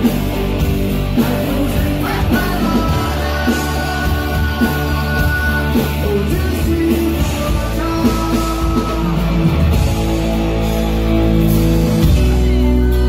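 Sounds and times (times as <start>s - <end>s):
drums: 0.0s - 13.0s
electric bass: 0.0s - 13.0s.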